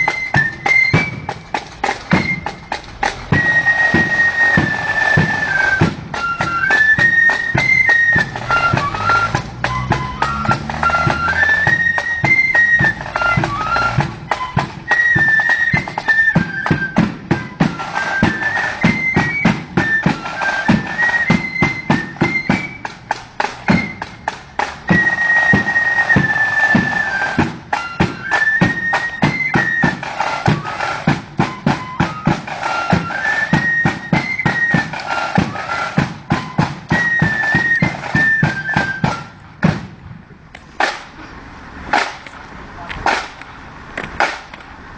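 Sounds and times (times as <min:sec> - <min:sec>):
flute melody: 0:00.0 - 0:39.7
snare drum strokes: 0:00.0 - 0:40.0, 0:40.7 - 0:41.3, 0:41.9 - 0:42.4, 0:43.0 - 0:43.5, 0:44.1 - 0:44.6.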